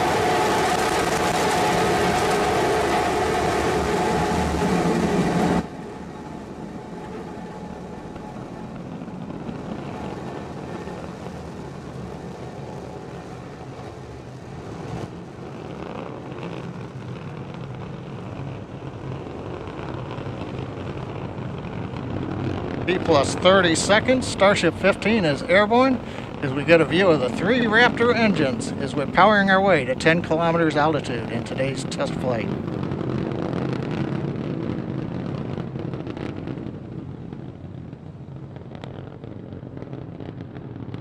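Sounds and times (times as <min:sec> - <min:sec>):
rocket engines rumbling: 0:00.0 - 0:41.0.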